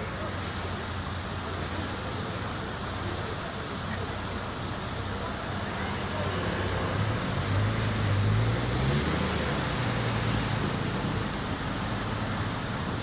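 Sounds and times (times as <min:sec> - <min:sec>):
street traffic noise: 0:00.0 - 0:13.0
vehicle engine hum: 0:00.0 - 0:13.0.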